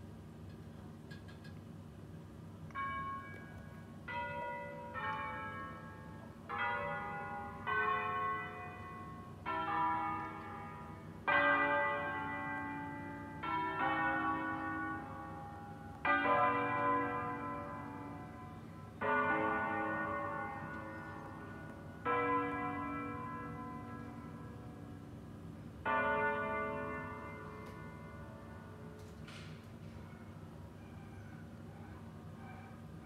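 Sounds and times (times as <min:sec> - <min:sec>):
church bells ringing a tune: 0:02.7 - 0:29.2.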